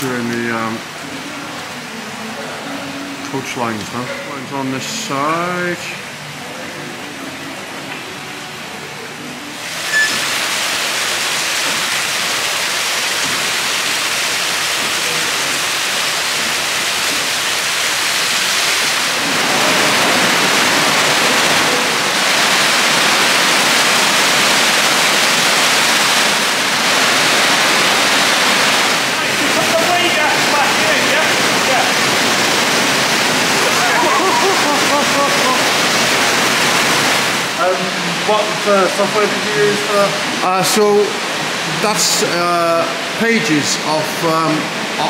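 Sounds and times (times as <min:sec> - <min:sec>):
water gushing: 0:00.0 - 0:07.8, 0:08.4 - 0:45.0.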